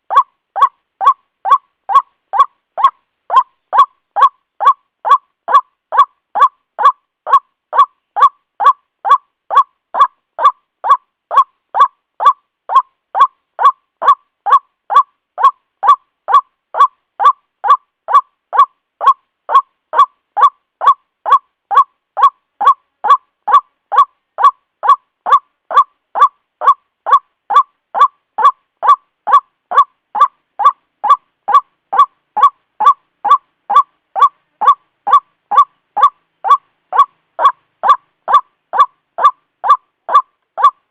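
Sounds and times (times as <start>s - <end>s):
waterhen nasal call: 0.0s - 40.9s.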